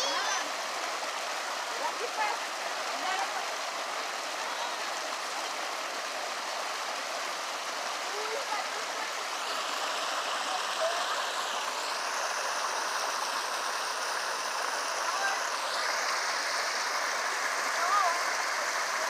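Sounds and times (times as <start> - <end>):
stream rushing over stones: 0.0 - 19.0.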